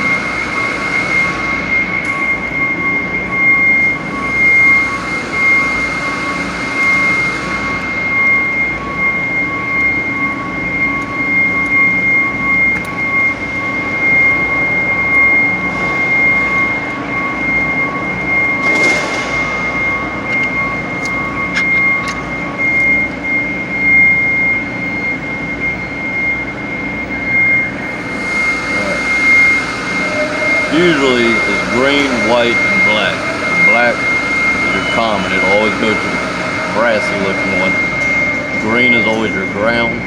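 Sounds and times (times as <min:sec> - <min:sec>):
high-pitched whine: 0:00.0 - 0:40.0
machine drone: 0:00.0 - 0:40.0.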